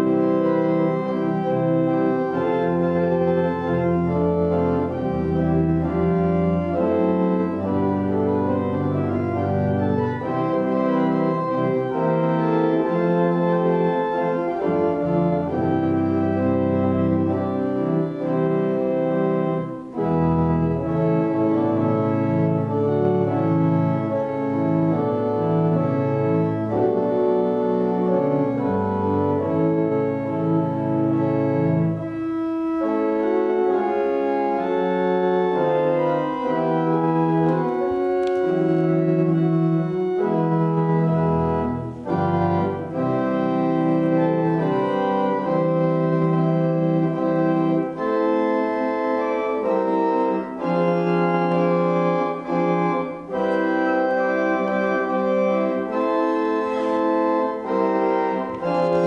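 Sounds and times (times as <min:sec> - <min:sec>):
organ playing held chords: 0:00.0 - 0:59.0.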